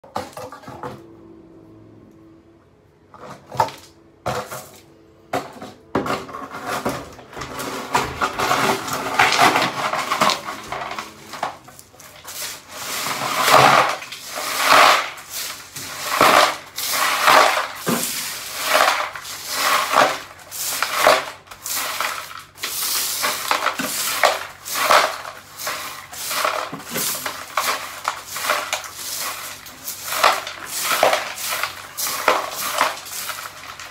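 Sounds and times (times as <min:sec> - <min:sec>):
broom sweeping broken glass: 0:03.3 - 0:33.9.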